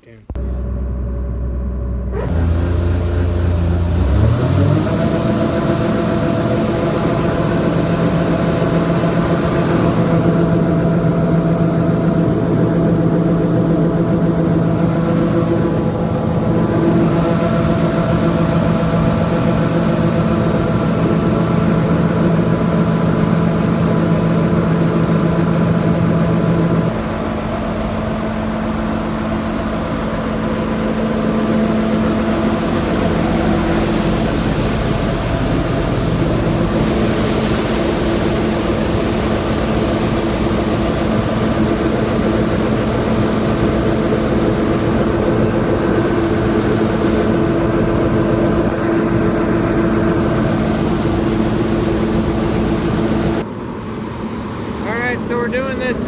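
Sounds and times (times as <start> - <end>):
diesel farm machinery drone: 0.0 - 56.0.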